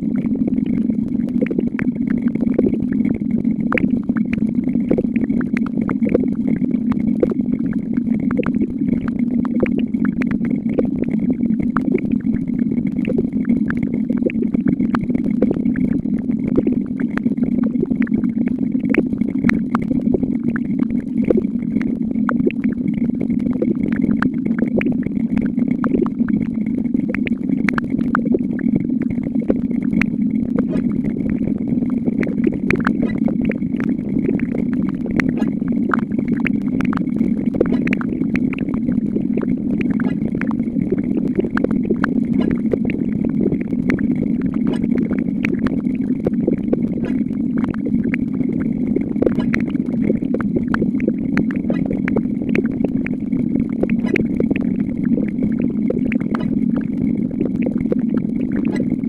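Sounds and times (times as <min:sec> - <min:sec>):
low hum with faint high tone: 0:00.0 - 0:59.0.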